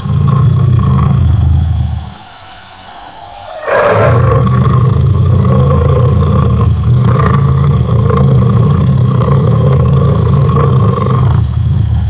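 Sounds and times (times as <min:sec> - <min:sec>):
lion growling roar: 0:00.0 - 0:02.2, 0:03.5 - 0:12.0.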